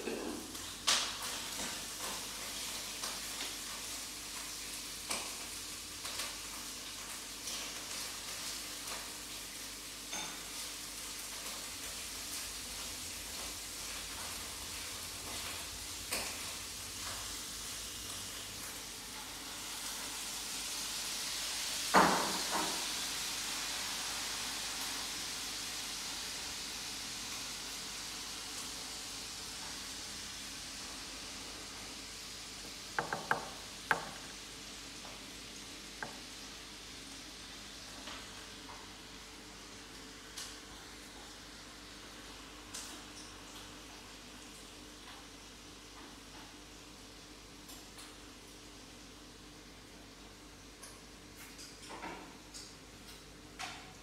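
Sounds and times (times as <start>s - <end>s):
steady hiss: 0.0s - 43.5s.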